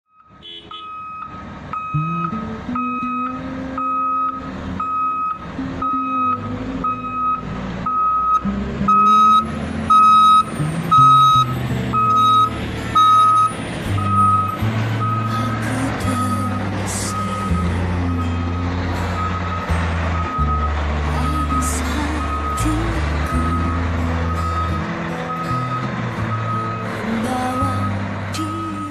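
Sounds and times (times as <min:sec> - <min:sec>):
reversing alarm beeping: 0:00.1 - 0:28.7
diesel engine: 0:00.1 - 0:28.9.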